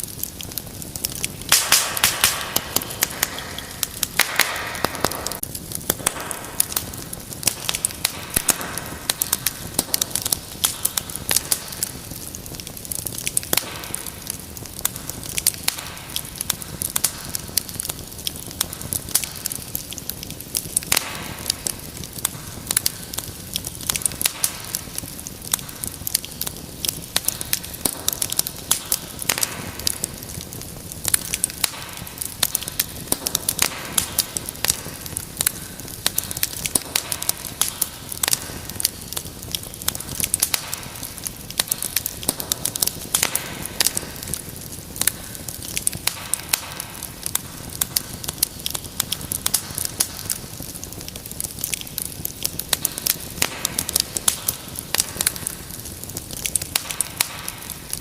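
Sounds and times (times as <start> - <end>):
hiss of flames: 0.0 - 58.0
wood fire crackling: 0.0 - 58.0.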